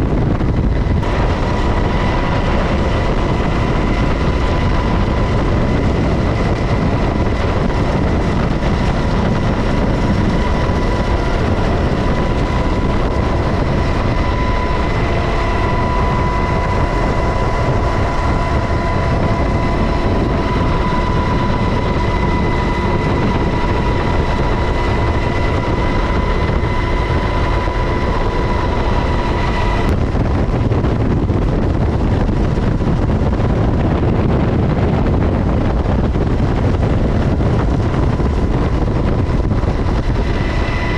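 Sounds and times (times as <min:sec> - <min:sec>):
helicopter rotor rumble: 0:00.0 - 0:40.9
high turbine whine: 0:00.0 - 0:40.9
wind-like rush: 0:00.0 - 0:40.9.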